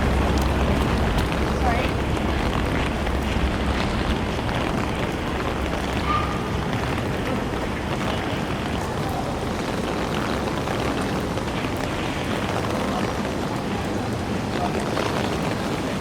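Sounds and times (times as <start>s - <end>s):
constant low rumble: 0.0s - 16.0s
passing traffic: 0.0s - 16.0s
steady rain on street: 0.0s - 16.0s.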